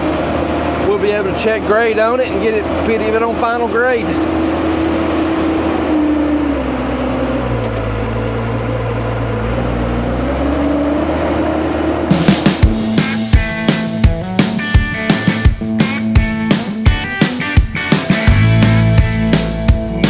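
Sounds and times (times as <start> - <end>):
dump truck diesel engine running: 0.0 - 20.0.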